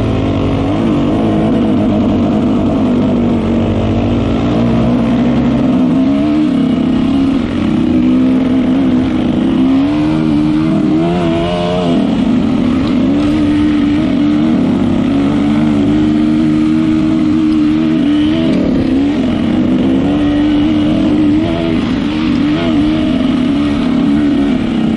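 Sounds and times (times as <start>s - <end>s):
dirt bike engine revving: 0.0s - 24.9s.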